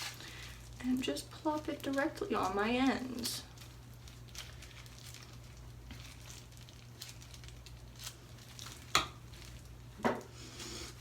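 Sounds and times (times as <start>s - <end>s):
hair rustling and squishing: 0.0s - 11.0s
low steady hum: 0.0s - 11.0s.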